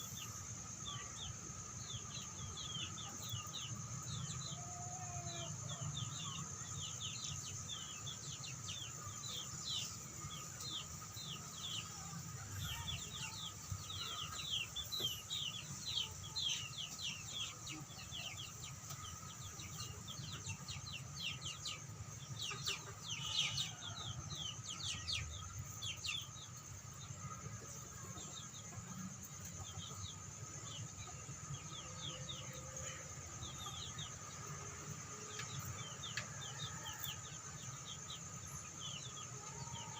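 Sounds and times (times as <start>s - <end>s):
chickens chirping: 0.0s - 39.9s.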